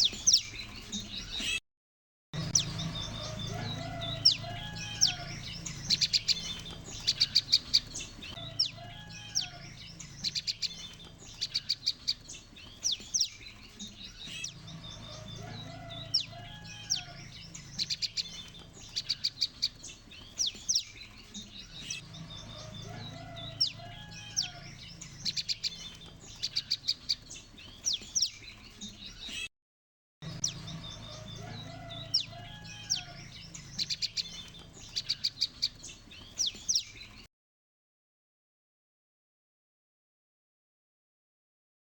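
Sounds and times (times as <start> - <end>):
birds ticking calls: 0.0 - 1.6, 2.4 - 29.5, 30.2 - 37.3.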